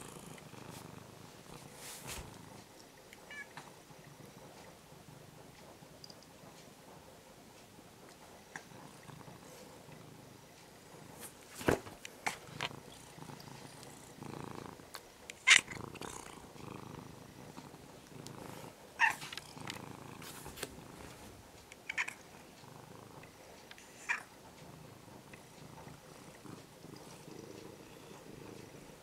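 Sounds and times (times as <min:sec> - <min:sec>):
cat purring: 0:00.0 - 0:06.8, 0:07.4 - 0:29.0.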